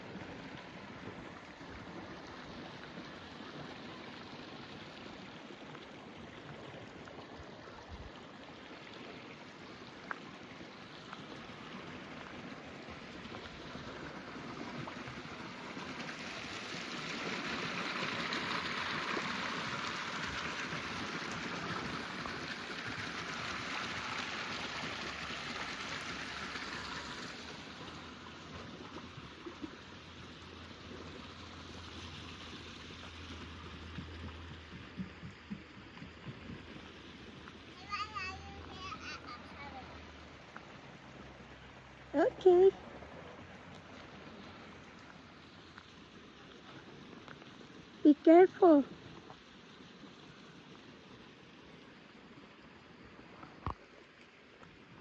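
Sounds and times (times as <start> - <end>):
water rushing in a stream: 0.0 - 55.0.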